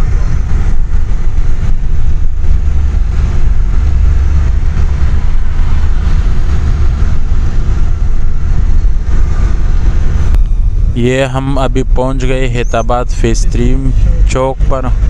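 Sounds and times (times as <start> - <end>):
car interior road and engine rumble: 0.0 - 15.0.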